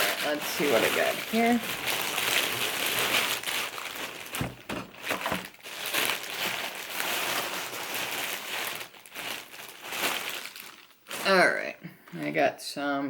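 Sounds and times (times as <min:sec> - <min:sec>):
packaging crinkling and rustling: 0:00.0 - 0:11.4.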